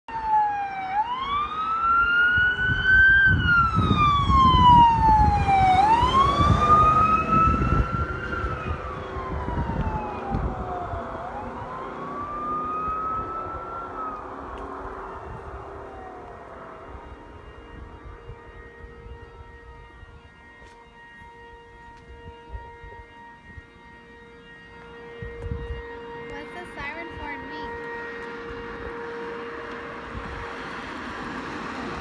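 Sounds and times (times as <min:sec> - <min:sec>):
warning siren winding up and down: 0:00.1 - 0:32.0.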